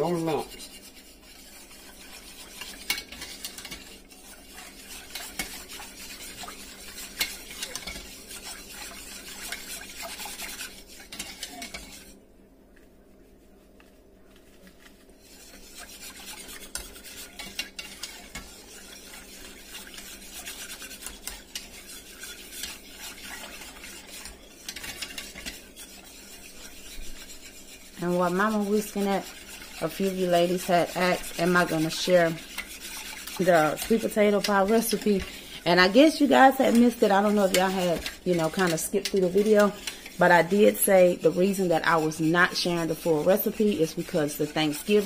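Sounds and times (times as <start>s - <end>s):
whisk scraping metal saucepan: 0.0s - 12.2s, 13.3s - 45.0s.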